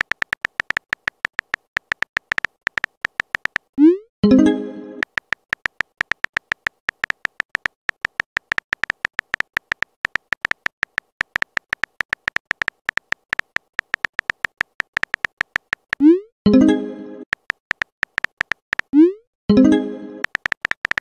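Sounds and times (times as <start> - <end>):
phone keyboard typing clicks: 0.0 - 4.0, 5.0 - 16.2, 17.2 - 19.1, 20.2 - 21.0.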